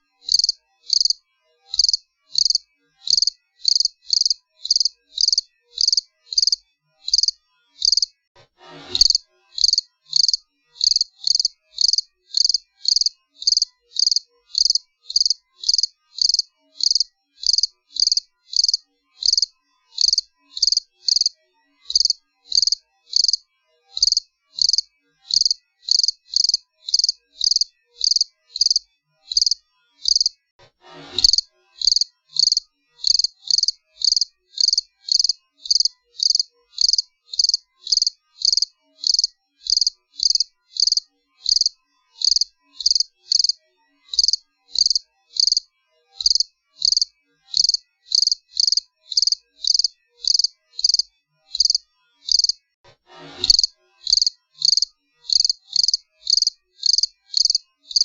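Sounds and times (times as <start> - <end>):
cricket chirping: 0.3 - 8.1, 9.0 - 21.3, 21.9 - 23.4, 24.0 - 30.3, 31.2 - 45.6, 46.2 - 52.6, 53.5 - 58.0.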